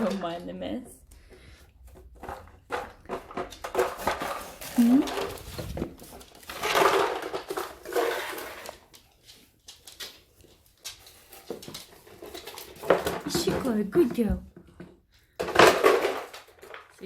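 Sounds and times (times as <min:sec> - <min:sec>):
plastic toy rattling on floor: 0:02.2 - 0:14.3, 0:15.4 - 0:17.0.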